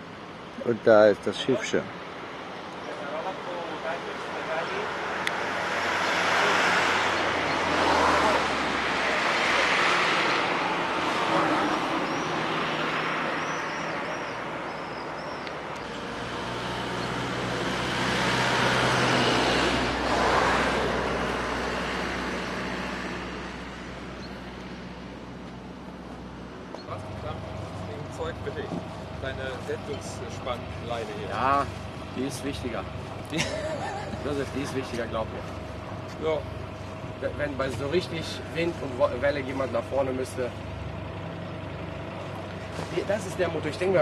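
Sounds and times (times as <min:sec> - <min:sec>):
cars driving past: 0:00.0 - 0:44.0.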